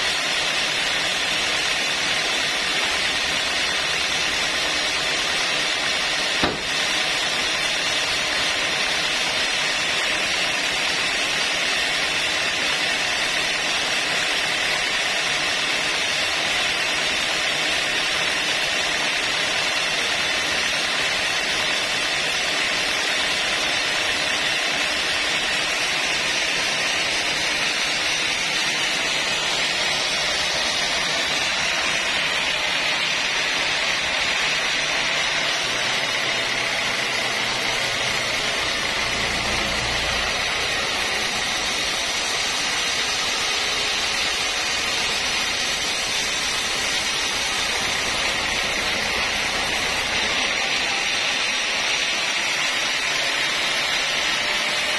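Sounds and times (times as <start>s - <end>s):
band saw whirring hiss: 0.0s - 54.9s.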